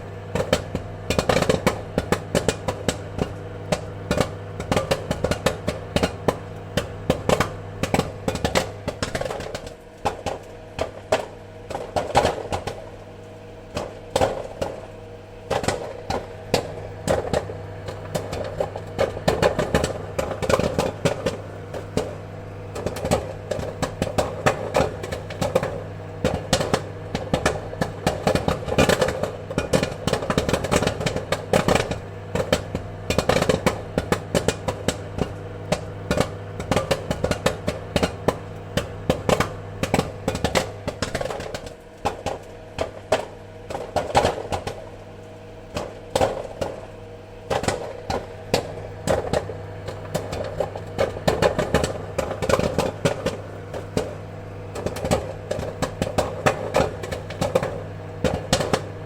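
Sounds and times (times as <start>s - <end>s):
popcorn popping: 0.0s - 59.0s
steady low hum: 0.0s - 59.0s.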